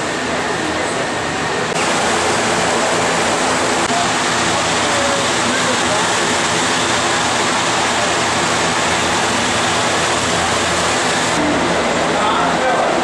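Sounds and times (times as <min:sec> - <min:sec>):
fans rushing: 0:00.0 - 0:13.0.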